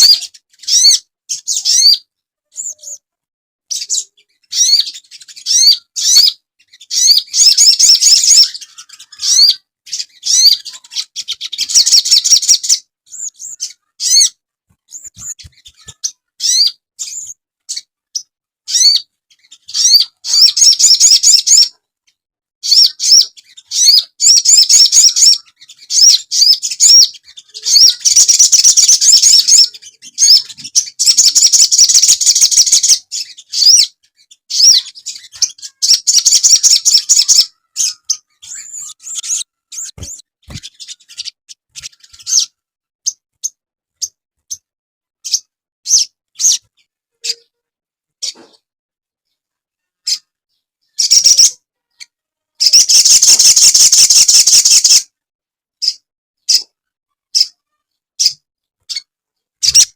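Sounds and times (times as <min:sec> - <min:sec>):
bird chirping rapidly: 0:00.0 - 0:03.0, 0:03.7 - 0:21.8, 0:22.6 - 0:44.6, 0:45.2 - 0:47.5, 0:50.9 - 0:51.6, 0:52.6 - 0:55.0, 0:58.2 - 0:59.9.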